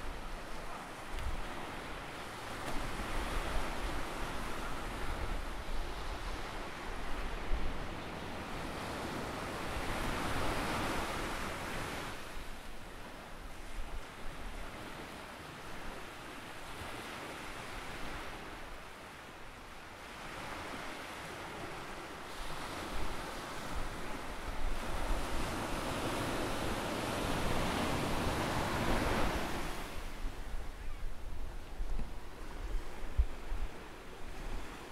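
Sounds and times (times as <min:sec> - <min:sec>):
ocean surf breaking on beach: 0:00.0 - 0:34.9.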